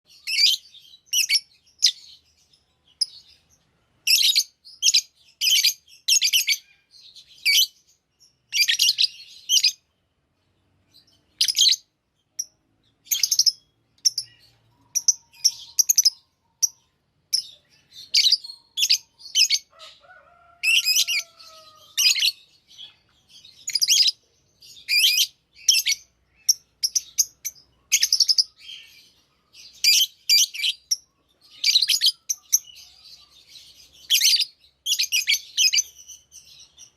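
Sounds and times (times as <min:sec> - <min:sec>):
parrots chirping: 0:00.1 - 0:02.3, 0:04.1 - 0:09.9, 0:11.0 - 0:36.9.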